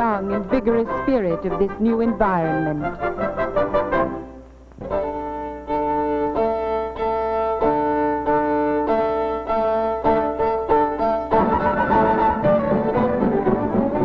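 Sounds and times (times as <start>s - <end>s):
instrumental dance music: 0.0s - 14.0s.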